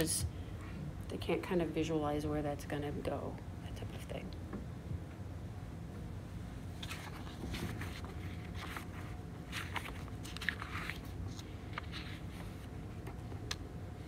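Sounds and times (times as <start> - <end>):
low steady room hum: 0.0 - 14.0.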